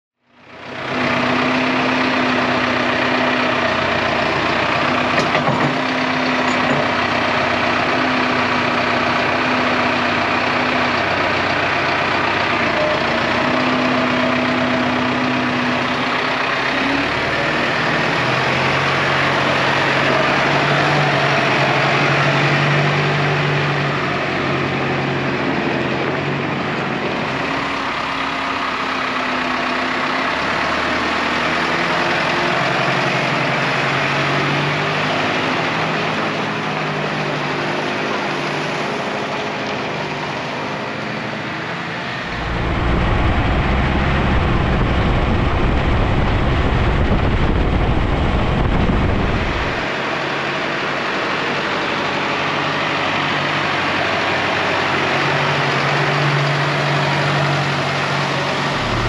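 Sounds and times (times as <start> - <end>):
farm machinery diesel engine droning: 0.2 - 59.0.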